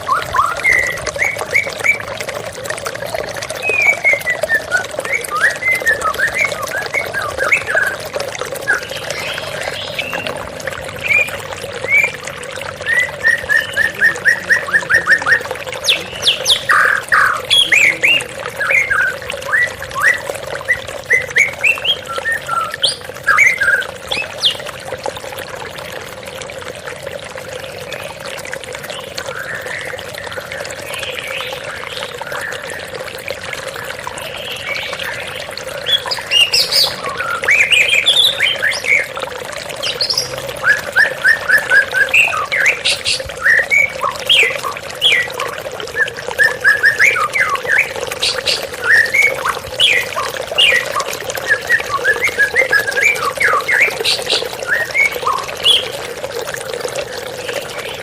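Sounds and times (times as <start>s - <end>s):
songbirds singing: 0.0s - 25.0s, 27.6s - 58.0s
flowing water: 0.0s - 58.0s.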